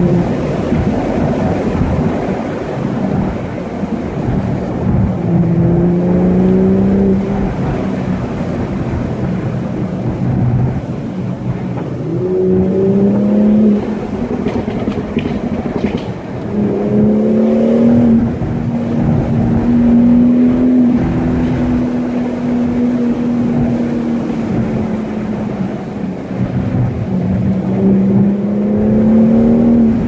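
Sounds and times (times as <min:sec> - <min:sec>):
car engine hum: 0:00.0 - 0:30.0
tyre noise on the road: 0:00.0 - 0:30.0.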